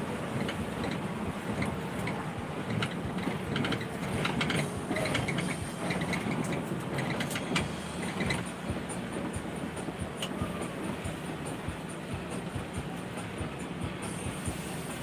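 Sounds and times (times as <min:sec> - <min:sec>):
bus engine and road drone: 0:00.0 - 0:15.0
light clicks and rattles: 0:00.3 - 0:13.4.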